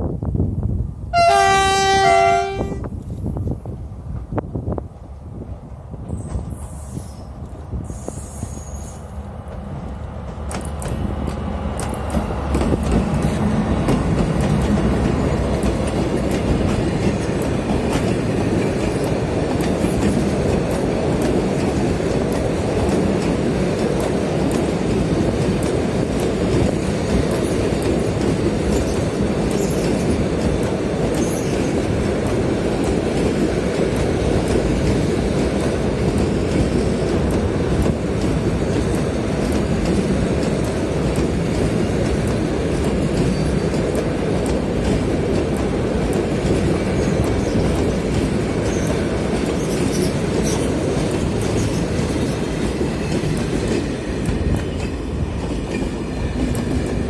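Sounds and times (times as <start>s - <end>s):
train wheels rumbling on rails: 0.0s - 57.0s
clickety-clack over rail joints: 5.5s - 6.8s, 7.4s - 57.0s.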